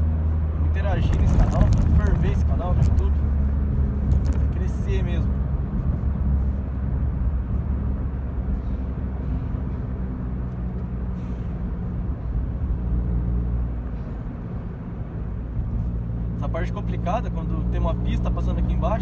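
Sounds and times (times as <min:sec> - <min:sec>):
car engine drone: 0:00.0 - 0:19.0
tyre and road noise: 0:00.0 - 0:19.0.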